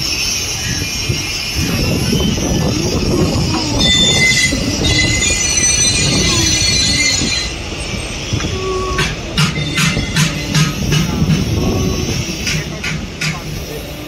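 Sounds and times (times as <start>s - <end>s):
locomotive wheels squealing: 0.0s - 14.0s
low locomotive rumble: 0.0s - 14.0s.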